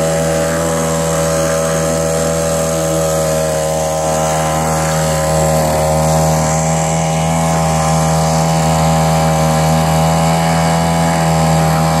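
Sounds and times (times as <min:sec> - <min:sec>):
outboard motor drone: 0:00.0 - 0:12.0.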